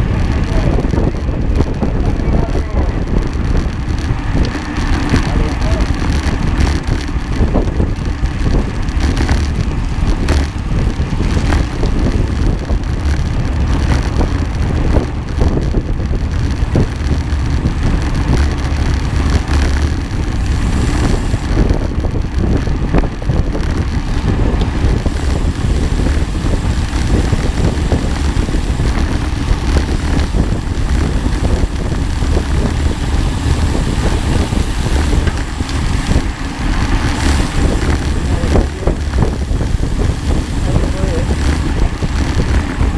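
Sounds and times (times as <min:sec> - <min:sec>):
vehicle rumbling: 0:00.0 - 0:42.9
wind buffeting microphone: 0:00.0 - 0:42.9.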